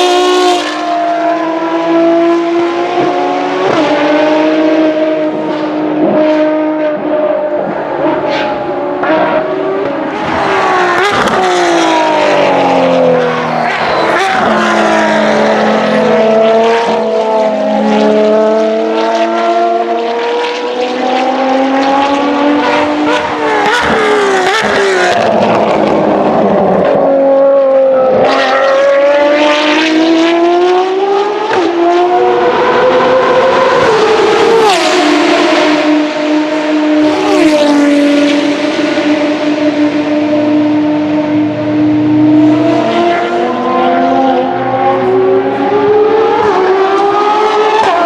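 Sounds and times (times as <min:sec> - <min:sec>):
sports car engines revving: 0:00.0 - 0:48.0.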